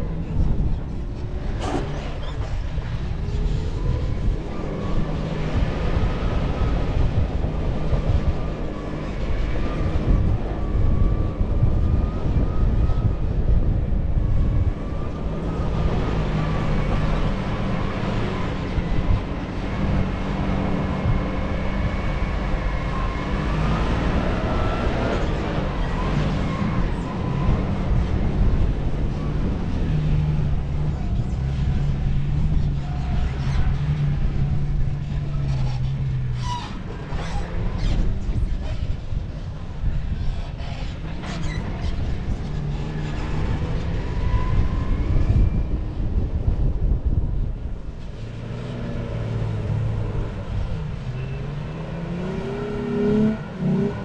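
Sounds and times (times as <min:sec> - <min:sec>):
vehicle engine rumble while driving: 0:00.0 - 0:54.0.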